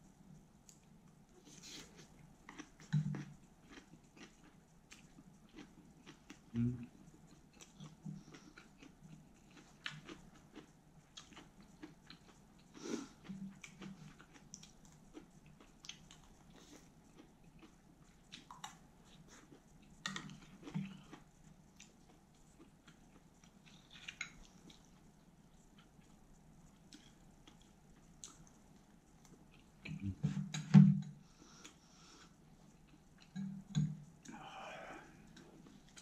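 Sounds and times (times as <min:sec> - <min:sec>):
chewing with mouth clicks: 0:00.6 - 0:36.0.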